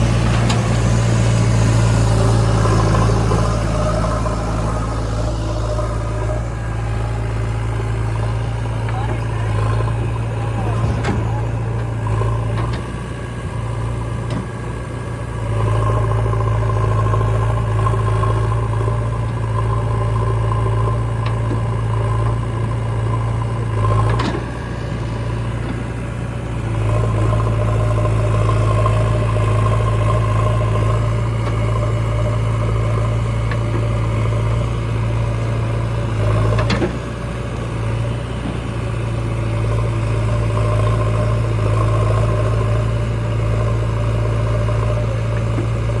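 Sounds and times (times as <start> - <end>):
diesel engine of heavy machinery: 0.0 - 46.0.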